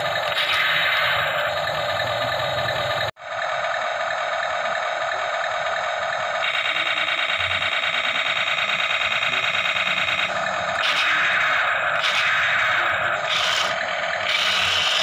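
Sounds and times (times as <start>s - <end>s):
toy electronic buzzy pulsing: 0.0s - 15.0s.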